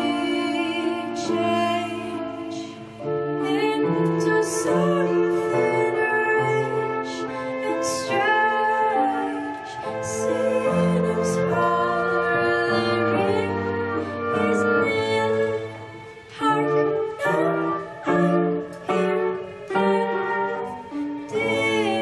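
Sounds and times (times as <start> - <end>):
small ensemble playing slow music: 0.0 - 22.0.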